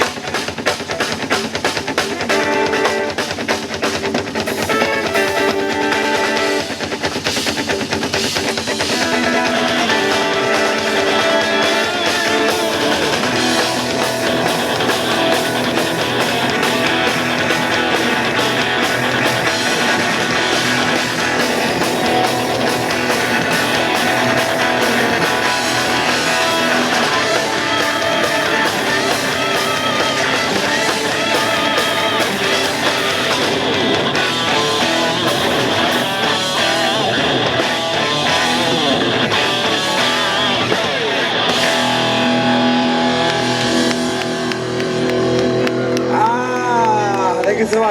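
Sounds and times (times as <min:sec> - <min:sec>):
buskers playing rock music: 0:00.0 - 0:47.9
electric guitar: 0:00.0 - 0:47.9.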